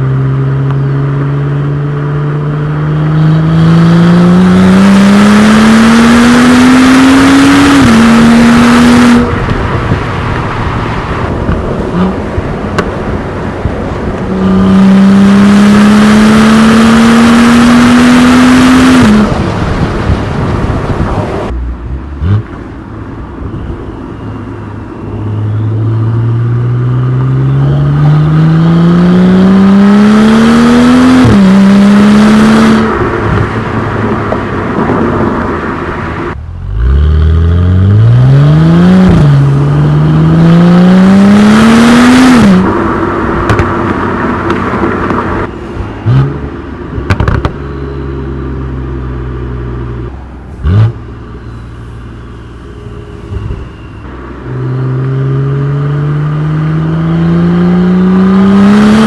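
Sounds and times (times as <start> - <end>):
car engine accelerating hard: 0.0 - 12.8, 14.2 - 22.6, 25.4 - 59.0.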